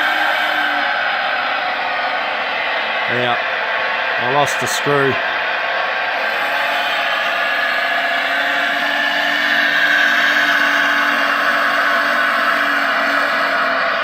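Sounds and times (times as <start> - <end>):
electric drive whining: 0.0 - 14.0.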